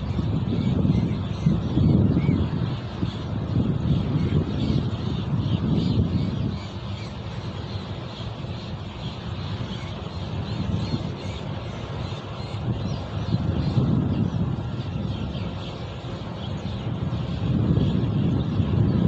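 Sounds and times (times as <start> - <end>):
birds chirping: 0.0 - 19.0
wind buffeting microphone: 0.0 - 19.0.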